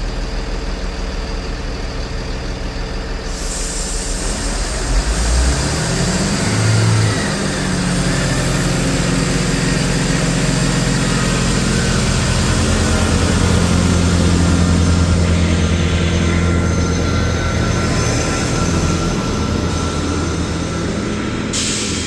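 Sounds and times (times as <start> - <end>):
diesel train engine running: 0.0 - 22.0.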